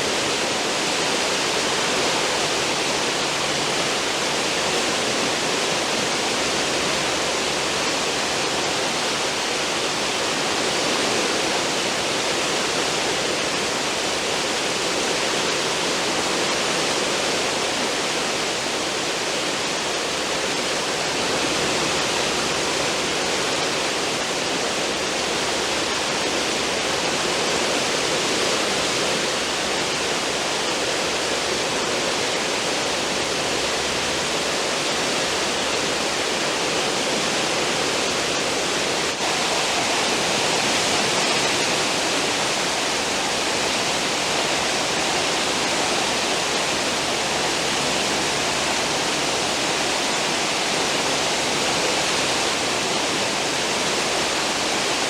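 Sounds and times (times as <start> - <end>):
churning ship wake water: 0.0 - 55.0.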